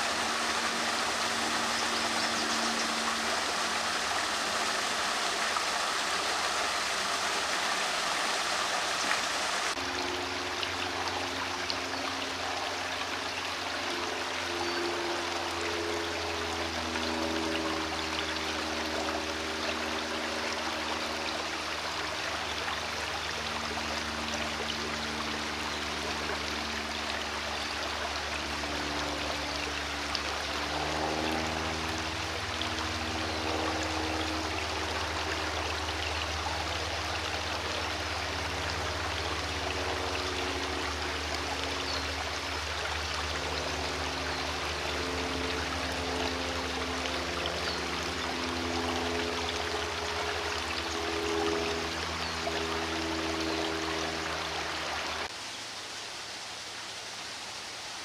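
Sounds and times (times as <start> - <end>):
stream trickling over rocks: 0.0 - 58.0.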